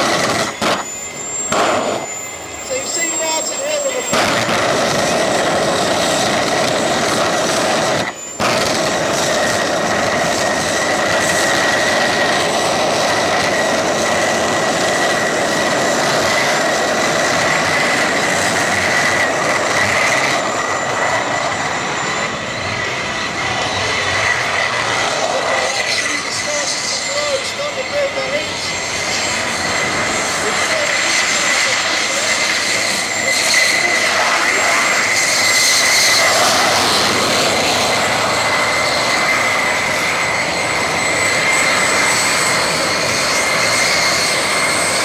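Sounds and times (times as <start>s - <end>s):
jet engine whine and roar: 0.0s - 45.0s.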